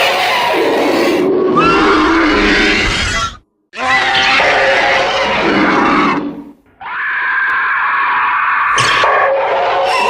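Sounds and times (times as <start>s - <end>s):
screeching creature call: 0.0s - 10.0s.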